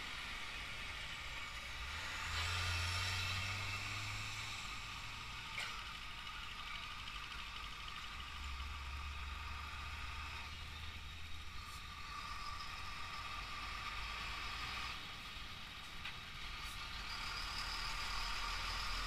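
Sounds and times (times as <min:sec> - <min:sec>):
heavy truck approaching: 0:00.0 - 0:19.0
road traffic: 0:00.0 - 0:19.0.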